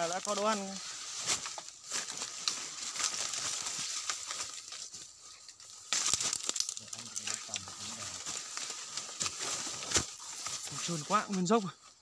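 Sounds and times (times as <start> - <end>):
dry leaves and twigs crackling: 0.0 - 12.0.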